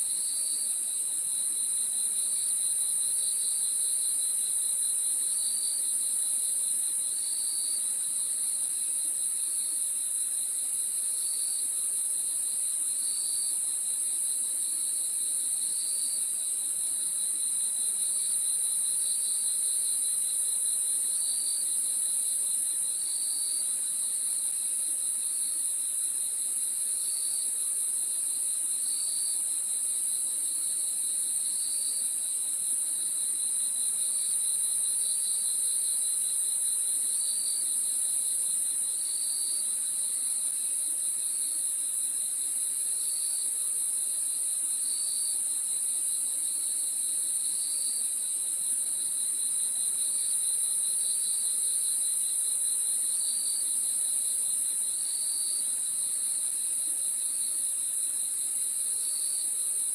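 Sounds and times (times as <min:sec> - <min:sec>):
crickets trilling: 0:06.9 - 0:26.1, 0:26.7 - 0:59.9.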